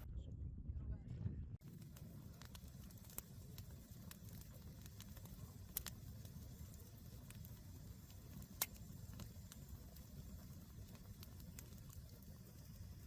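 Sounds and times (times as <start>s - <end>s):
low steady rumble: 0.0s - 13.0s
campfire crackling: 1.6s - 13.0s
fire pops: 1.6s - 13.0s.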